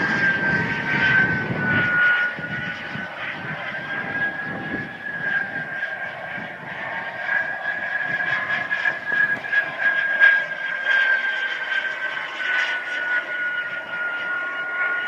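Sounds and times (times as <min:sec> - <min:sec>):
model jet turbine whining: 0:00.0 - 0:15.0.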